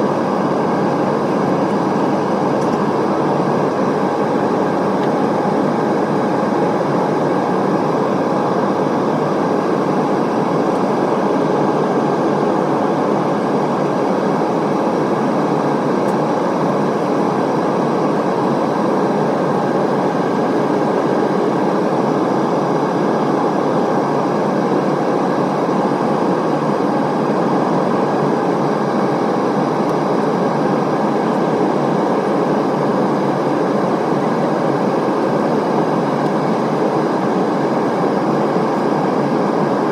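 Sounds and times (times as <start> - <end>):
airflow and engine noise: 0.0 - 39.9.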